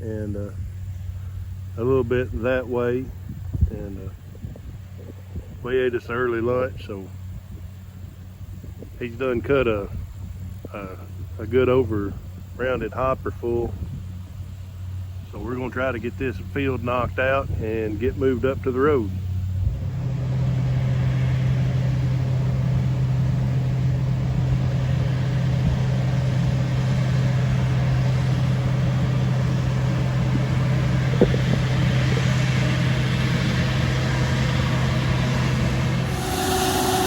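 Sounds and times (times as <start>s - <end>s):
engine running with low hum: 0.0s - 37.0s.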